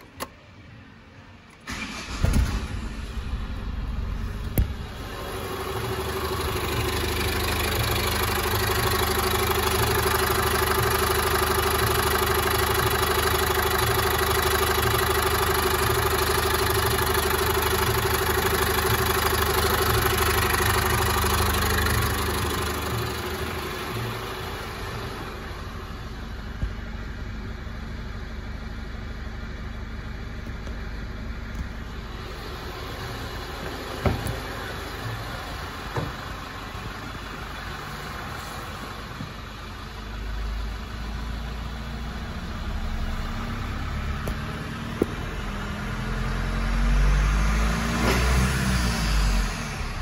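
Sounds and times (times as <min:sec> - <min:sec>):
diesel engine idling and revving: 0:00.0 - 0:50.0.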